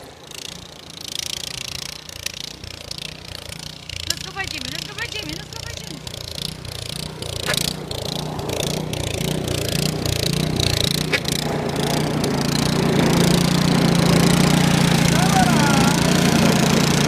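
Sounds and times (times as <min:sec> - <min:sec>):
snowblower engine running: 0:00.0 - 0:17.0.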